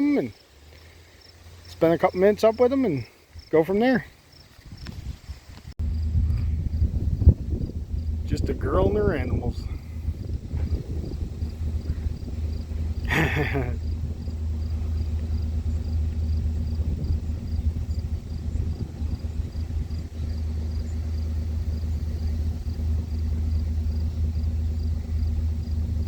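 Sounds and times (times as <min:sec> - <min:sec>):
steady low rumble: 0:04.2 - 0:26.0.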